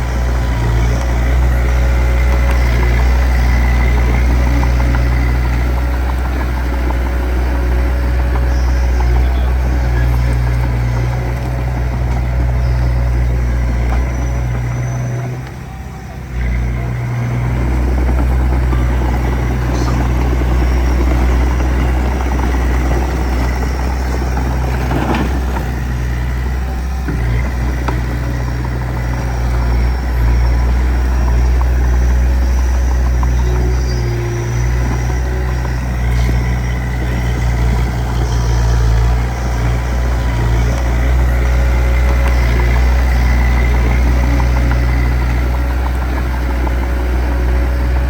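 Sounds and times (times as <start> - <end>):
bulldozer diesel engine droning: 0.0 - 48.0.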